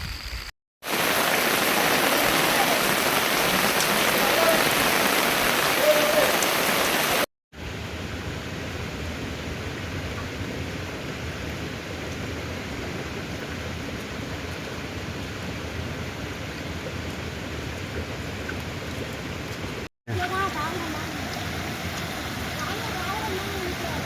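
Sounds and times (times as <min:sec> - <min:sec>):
heavy rain pouring: 0:00.8 - 0:24.0.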